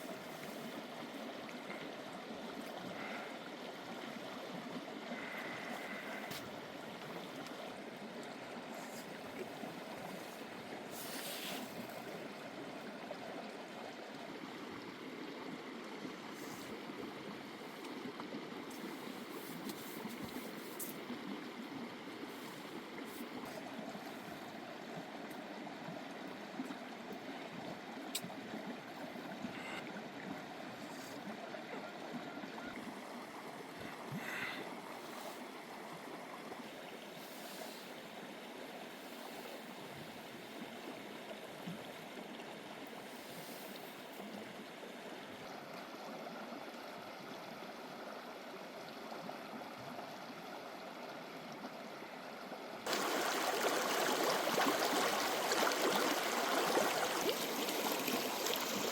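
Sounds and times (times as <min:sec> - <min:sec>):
rushing stream water: 0:00.0 - 0:58.9.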